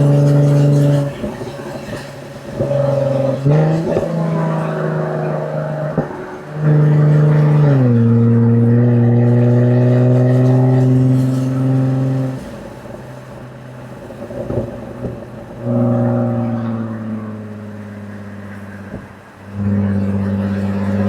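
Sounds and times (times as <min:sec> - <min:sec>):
car exhaust under hard acceleration: 0:00.0 - 0:21.0.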